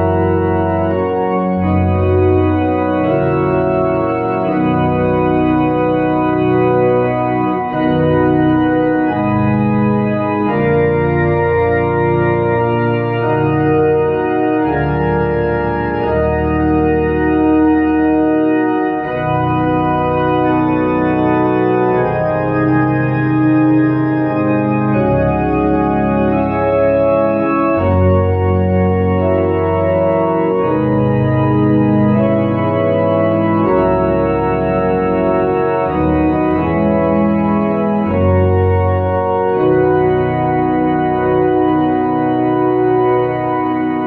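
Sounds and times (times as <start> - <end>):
organ playing a hymn: 0.0 - 44.0.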